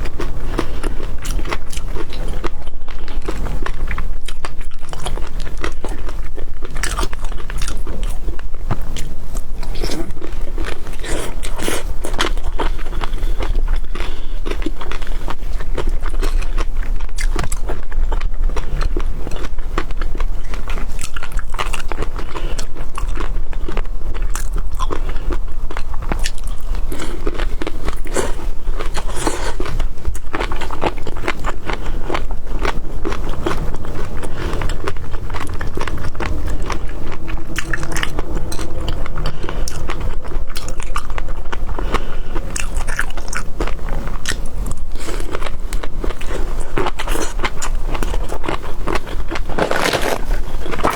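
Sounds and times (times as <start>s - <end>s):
chewing and crunching seafood: 0.0s - 50.9s.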